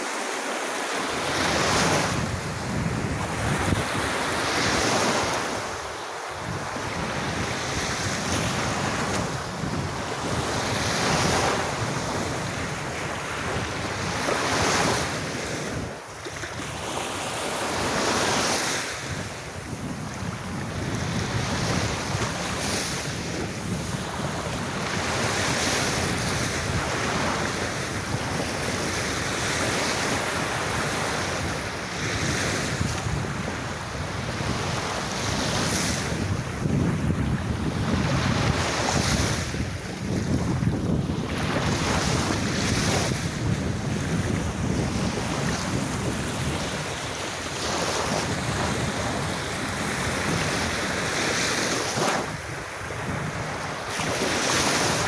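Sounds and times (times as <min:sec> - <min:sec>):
sea waves breaking on beach: 0:00.0 - 0:55.0
wind rumbling on microphone: 0:01.1 - 0:55.0.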